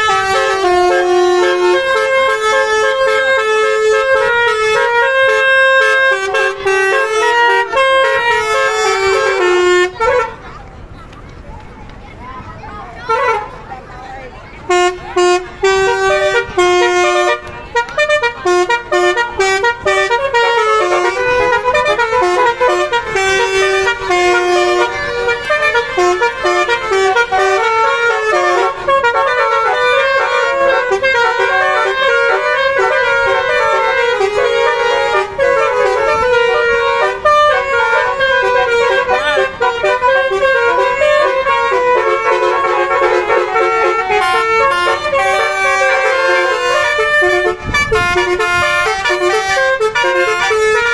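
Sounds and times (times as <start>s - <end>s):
multi-tone musical car horn: 0.0s - 10.6s, 13.0s - 13.9s, 14.6s - 50.9s.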